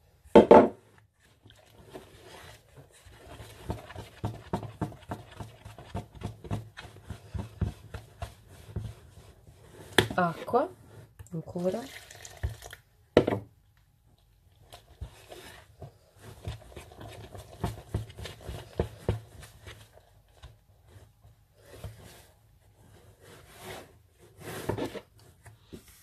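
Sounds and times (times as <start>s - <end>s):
fingers mixing dough in plastic bowl: 0.8s - 12.7s, 14.1s - 26.0s.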